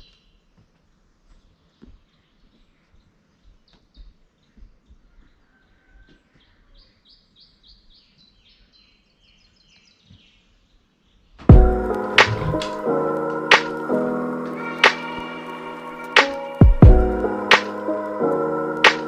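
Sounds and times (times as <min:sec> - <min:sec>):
songbird singing: 0:01.3 - 0:19.0.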